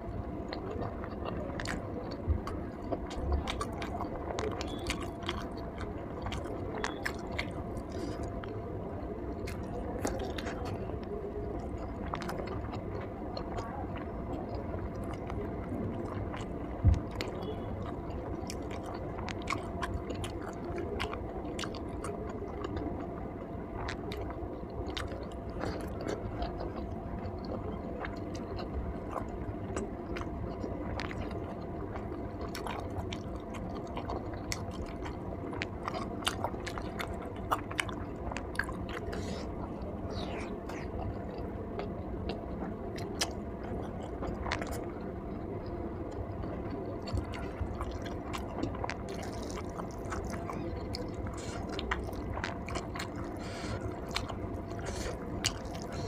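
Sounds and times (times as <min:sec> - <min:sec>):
person chewing food: 0:00.2 - 0:08.6, 0:09.3 - 0:15.4, 0:16.0 - 0:56.0.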